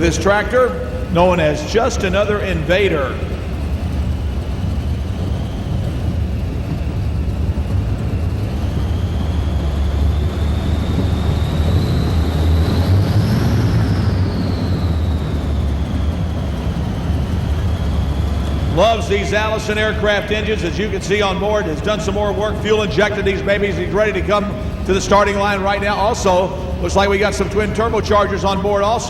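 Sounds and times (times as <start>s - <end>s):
deep engine rumble: 0.0s - 29.0s
turbocharger whine: 0.0s - 29.0s.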